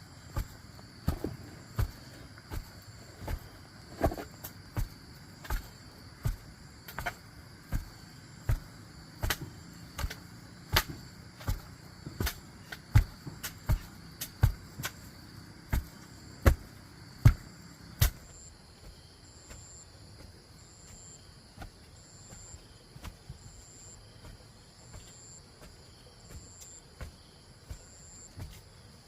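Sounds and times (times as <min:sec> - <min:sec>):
insect chirping: 0:00.0 - 0:29.0.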